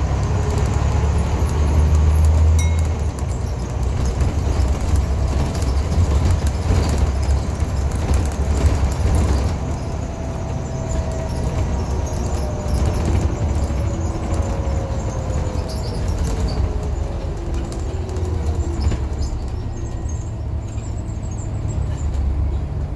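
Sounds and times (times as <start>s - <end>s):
bus diesel engine rumbling: 0.0s - 22.9s.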